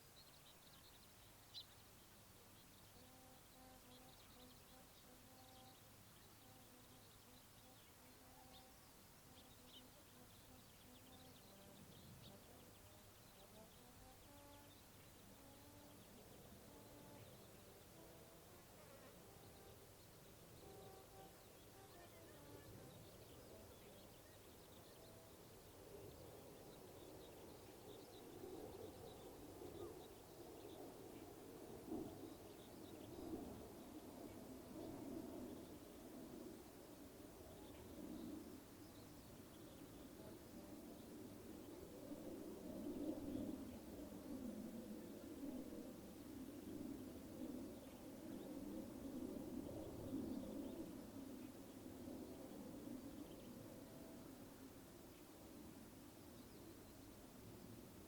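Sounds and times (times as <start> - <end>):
faint low hum: 0.0 - 58.0
small birds chirping: 0.0 - 58.0.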